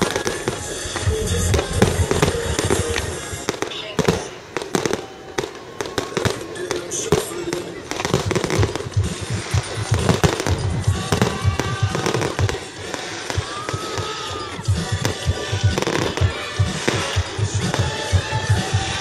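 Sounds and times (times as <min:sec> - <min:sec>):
crackling hiss of firework bursts: 0:00.0 - 0:19.0.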